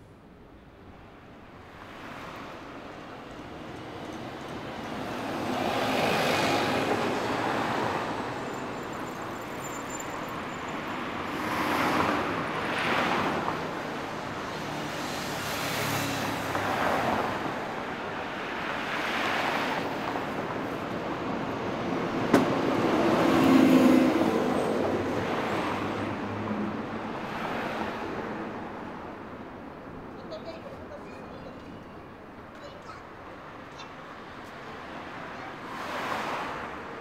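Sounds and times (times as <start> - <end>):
road noise: 0.0 - 37.0.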